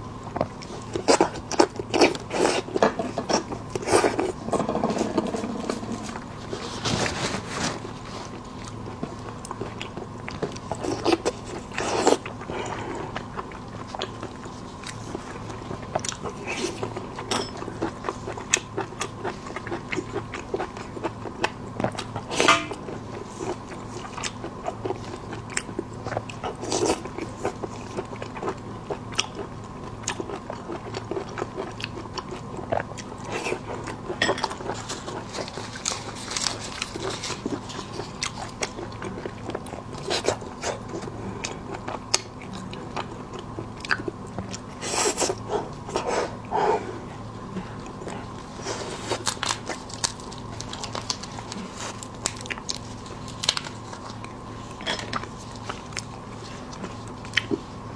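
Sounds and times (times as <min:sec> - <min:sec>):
low electrical hum: 0:00.0 - 0:57.9
crunching and wet chewing: 0:00.1 - 0:57.9.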